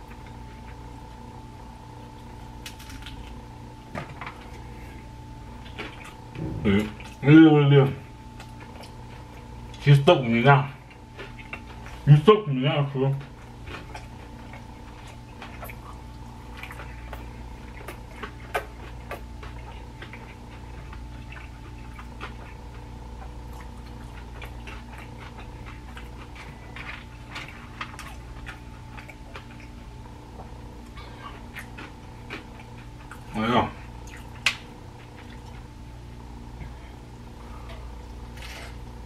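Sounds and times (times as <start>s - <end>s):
person chewing crunchy food: 0.0s - 7.3s, 8.1s - 9.9s, 10.7s - 12.1s, 13.1s - 39.0s
electrical hum: 0.0s - 39.0s.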